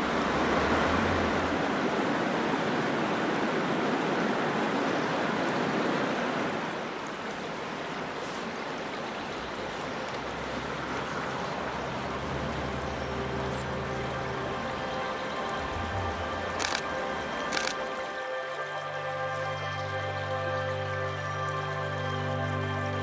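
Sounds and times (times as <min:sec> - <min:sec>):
stream water rushing: 0:00.0 - 0:23.0.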